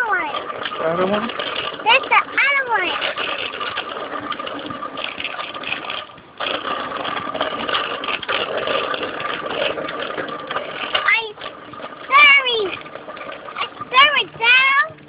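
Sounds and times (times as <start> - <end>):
high-pitched mechanical whirring: 0.0 - 15.0.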